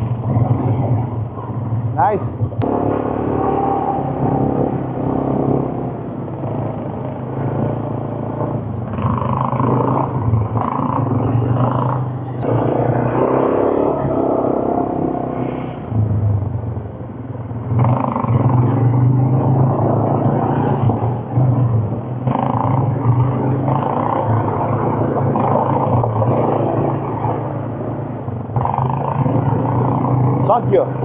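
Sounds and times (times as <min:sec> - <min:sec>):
quad bike engine running: 0:00.0 - 0:16.4, 0:17.6 - 0:31.0.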